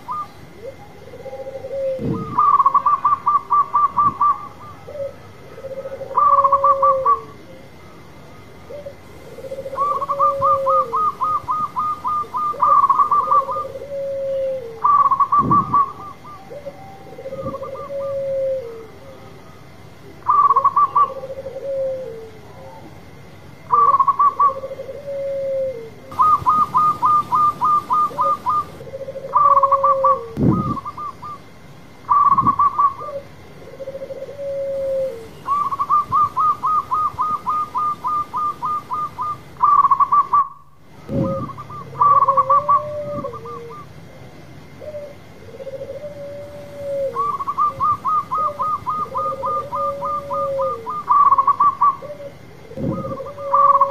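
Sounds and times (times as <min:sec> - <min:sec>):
doves cooing: 0:00.0 - 0:19.4, 0:20.0 - 0:53.9.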